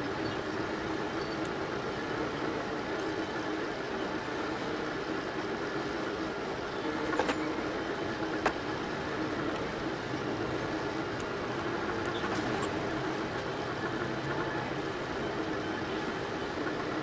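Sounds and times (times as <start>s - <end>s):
printer motors and fan whirring: 0.0s - 17.0s.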